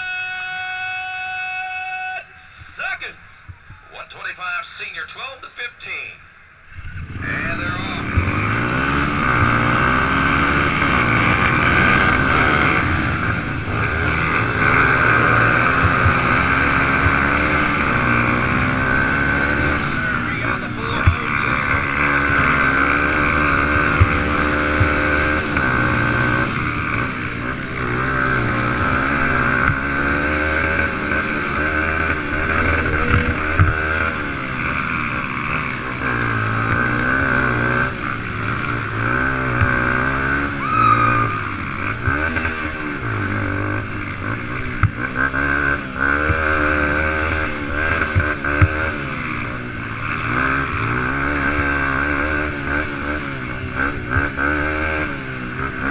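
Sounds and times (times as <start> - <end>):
quad engine revving: 6.7 - 55.9.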